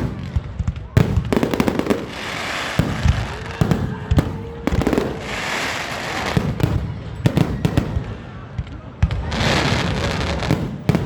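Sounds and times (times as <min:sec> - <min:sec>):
crackling hissing firework bursts: 0:00.0 - 0:11.0
fireworks booming: 0:00.0 - 0:11.0.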